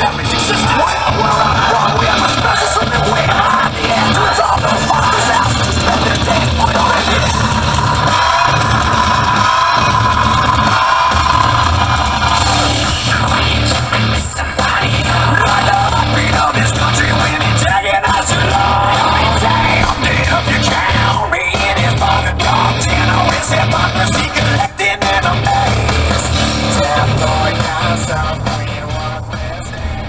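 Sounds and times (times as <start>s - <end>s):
rock music with vocals: 0.0s - 30.0s.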